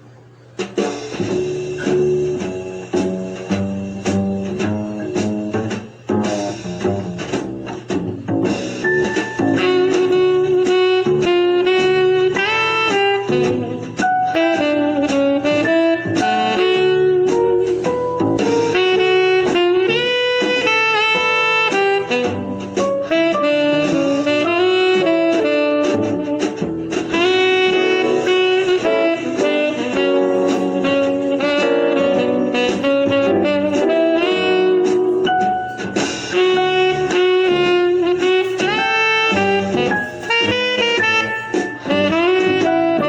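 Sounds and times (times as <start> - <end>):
upbeat jazz with saxophone: 0.5 - 43.0.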